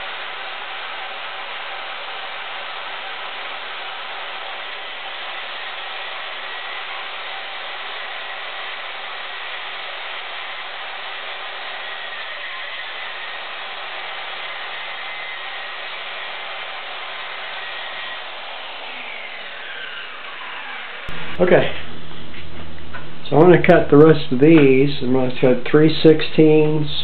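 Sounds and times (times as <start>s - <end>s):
circular saw cutting wood: 0.0s - 21.9s.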